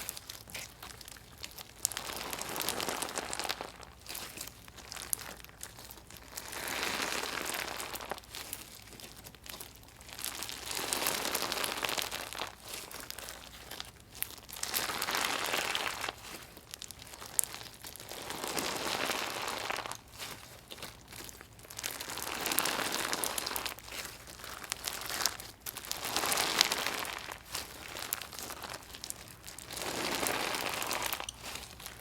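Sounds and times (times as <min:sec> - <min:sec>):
crunchy slime being kneaded: 0:00.0 - 0:32.0.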